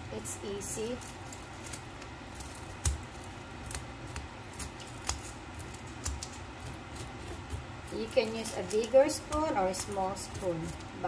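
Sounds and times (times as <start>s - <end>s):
spoon scraping fish scales: 0.7s - 11.0s.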